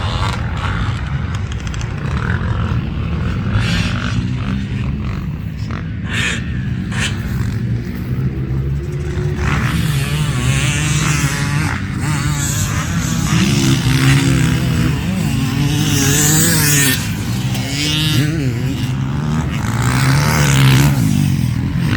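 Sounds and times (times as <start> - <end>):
motocross bike engine revving: 0.0 - 21.9.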